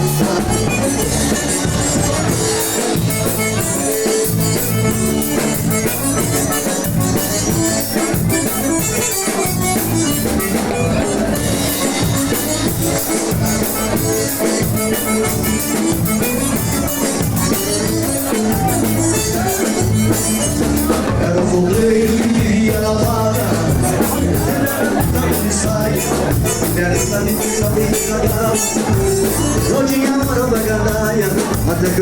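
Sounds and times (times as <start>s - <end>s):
band playing upbeat instrumental: 0.0s - 32.0s
steady drum beat: 0.0s - 32.0s.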